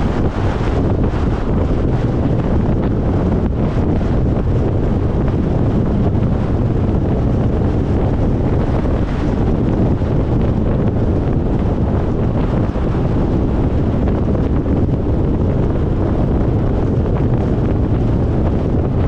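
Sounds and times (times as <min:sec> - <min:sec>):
car road noise at speed: 0:00.0 - 0:19.0
wind rushing over microphone: 0:00.0 - 0:19.0.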